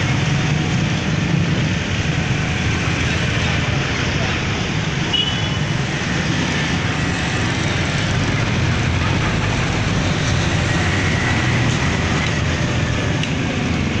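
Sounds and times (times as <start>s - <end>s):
motorcycles passing by: 0.0s - 14.0s
street traffic noise: 0.0s - 14.0s.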